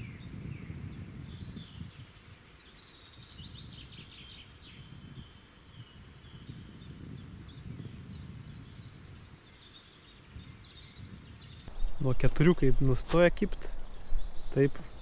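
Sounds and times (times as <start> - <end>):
small birds chirping and trilling: 0.0 - 15.0.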